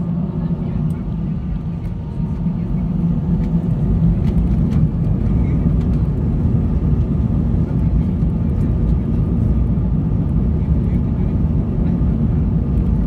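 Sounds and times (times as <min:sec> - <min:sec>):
airliner engine rumble: 0:00.0 - 0:13.0.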